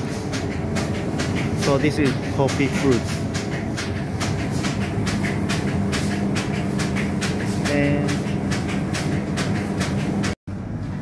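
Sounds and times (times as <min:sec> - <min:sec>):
machine humming and clicking: 0:00.0 - 0:11.0.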